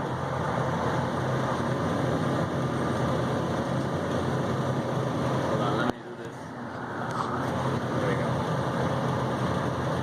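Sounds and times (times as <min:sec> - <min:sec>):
fans rushing air: 0:00.0 - 0:10.0.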